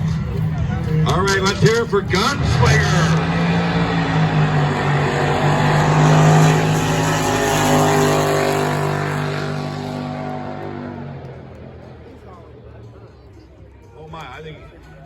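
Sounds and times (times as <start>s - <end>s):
racing boat engine running: 0.0s - 12.6s.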